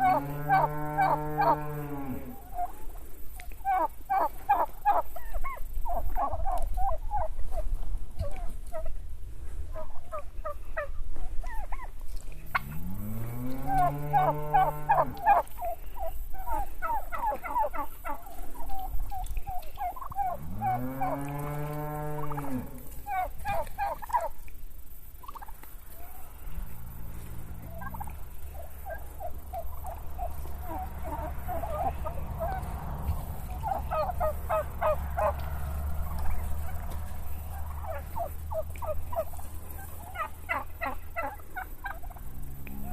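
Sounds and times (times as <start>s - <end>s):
long low turkey call: 0.0s - 12.8s, 13.6s - 21.5s, 22.2s - 24.6s, 25.2s - 42.9s
turkeys gobbling: 0.0s - 12.8s, 13.4s - 42.9s.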